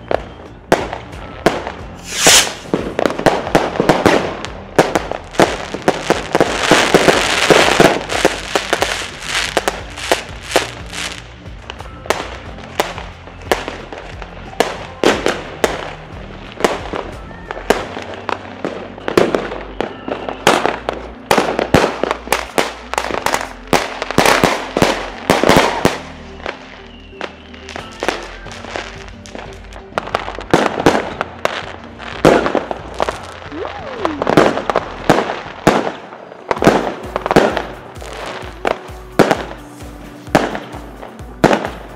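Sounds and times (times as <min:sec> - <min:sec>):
background music: 0:00.0 - 0:41.9
fireworks bangs: 0:00.0 - 0:41.9
fireworks crackling: 0:00.0 - 0:41.9.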